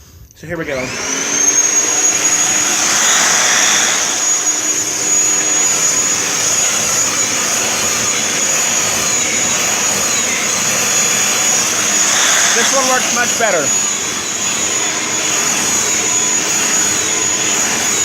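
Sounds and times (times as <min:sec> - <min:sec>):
vacuum cleaner whine: 0:00.6 - 0:18.0.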